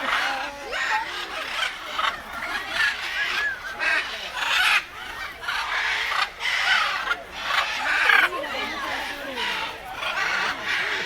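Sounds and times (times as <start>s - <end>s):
macaws squawking: 0.0s - 11.0s.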